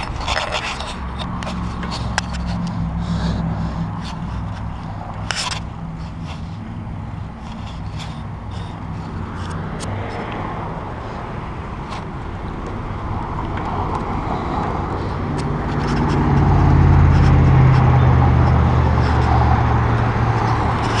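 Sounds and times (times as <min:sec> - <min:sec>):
air rush and road noise: 0:00.0 - 0:21.0
bicycle rattles and clicks: 0:00.0 - 0:21.0
motor vehicle engine hum: 0:00.0 - 0:21.0.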